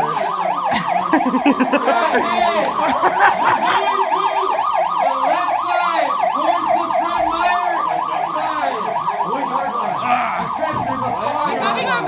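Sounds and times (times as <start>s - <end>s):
fire alarm siren sweeping: 0.0s - 12.0s.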